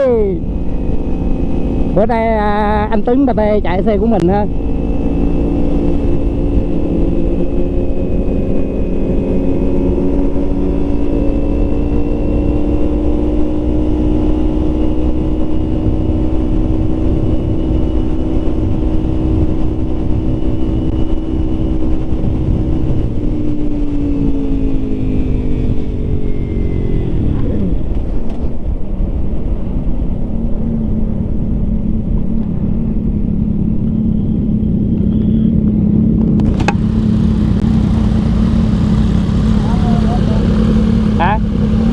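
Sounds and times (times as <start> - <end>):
motorcycle engine cruising: 0.0 - 41.9
wind rush on microphone: 0.0 - 41.9.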